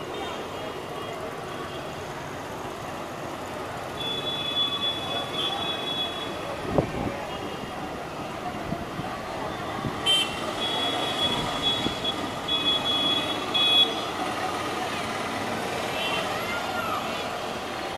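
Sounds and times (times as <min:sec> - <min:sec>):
traffic noise: 0:00.0 - 0:17.9.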